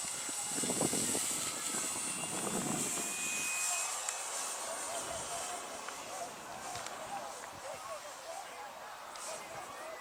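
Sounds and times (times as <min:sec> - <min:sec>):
model airplane motor whine: 0:00.0 - 0:08.3.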